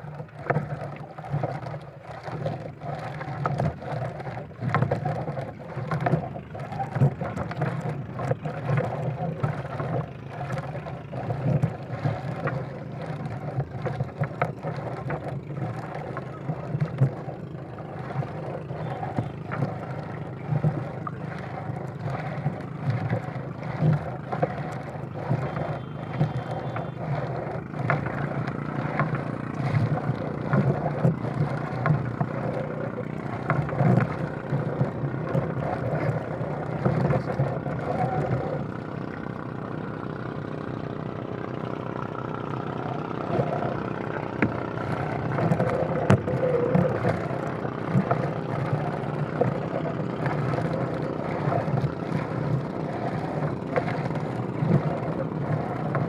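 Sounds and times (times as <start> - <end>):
irregular knocks and clatter: 0.0 - 38.7, 44.4 - 56.0
motorboat engine running: 0.0 - 56.0.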